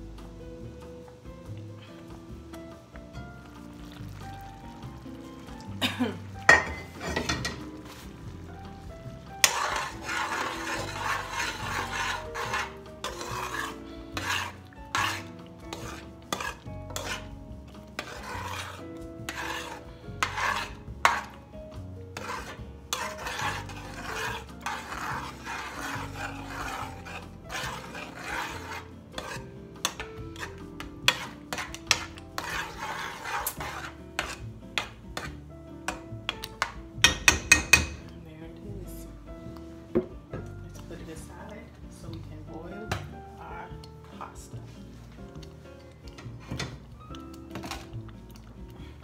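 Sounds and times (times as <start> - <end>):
spoon scraping sauce in metal pot: 6.4 - 38.2, 40.8 - 49.0.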